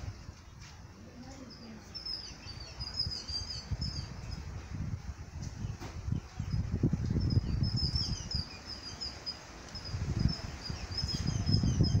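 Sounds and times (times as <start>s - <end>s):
wind rumble on microphone: 0.0s - 1.4s, 2.0s - 12.0s
small birds chirping: 0.0s - 12.0s.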